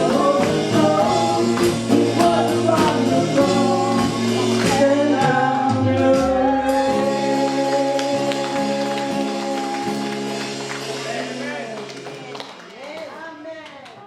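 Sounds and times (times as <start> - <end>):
men singing gospel song: 0.0 - 11.4
instrumental accompaniment: 0.0 - 12.5.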